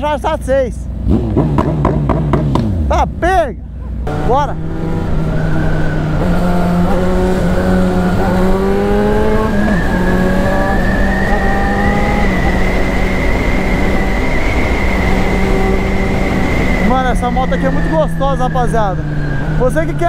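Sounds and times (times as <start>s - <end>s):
motorcycle engine accelerating: 0.8s - 20.0s.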